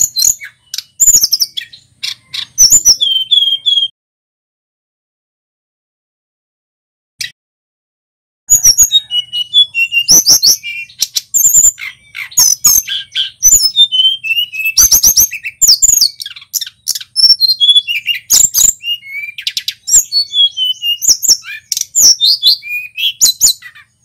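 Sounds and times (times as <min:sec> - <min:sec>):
bird singing chirps and trills: 0:00.0 - 0:03.9, 0:08.5 - 0:24.0.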